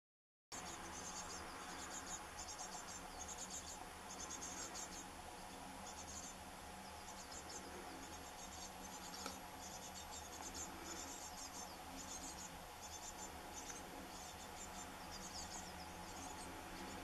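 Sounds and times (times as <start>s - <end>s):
insects chirping: 0.6s - 17.0s.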